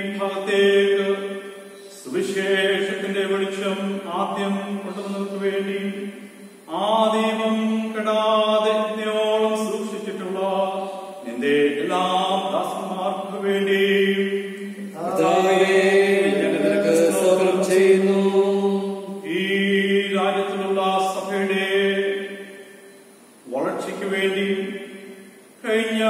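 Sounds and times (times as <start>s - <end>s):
man chanting a prayer: 0.0s - 22.4s, 23.5s - 25.0s, 25.6s - 26.0s.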